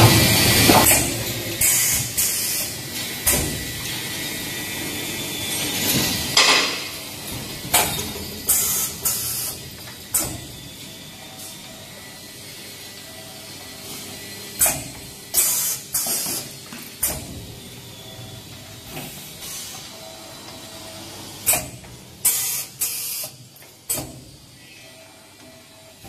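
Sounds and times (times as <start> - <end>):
wire bending machine running: 0.0 - 26.0.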